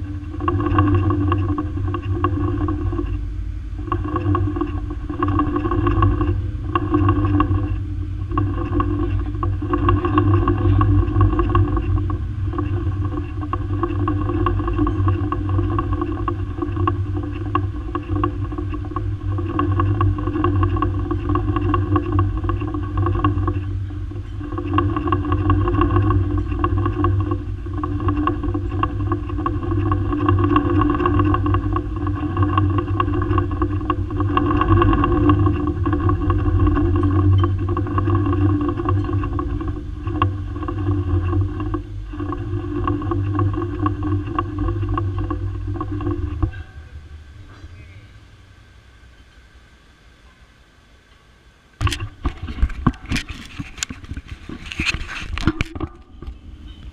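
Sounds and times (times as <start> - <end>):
machinery humming: 0.0 - 56.9.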